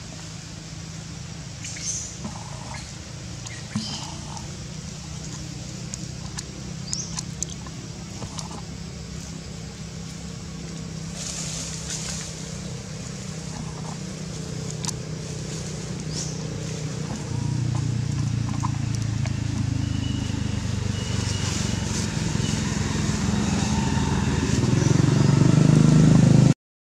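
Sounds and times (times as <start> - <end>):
vehicle engine humming: 0.0 - 26.6.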